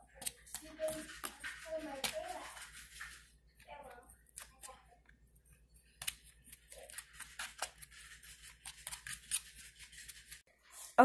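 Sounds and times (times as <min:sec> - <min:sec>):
fork scraping through flour: 0:00.0 - 0:04.8, 0:05.4 - 0:11.0.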